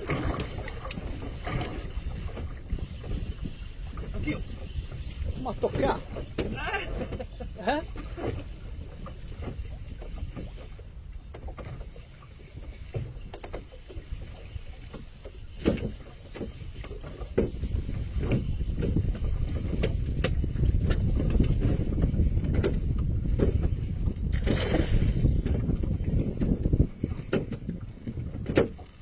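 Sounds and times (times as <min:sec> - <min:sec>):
water sloshing against boat hull: 0:00.0 - 0:29.0.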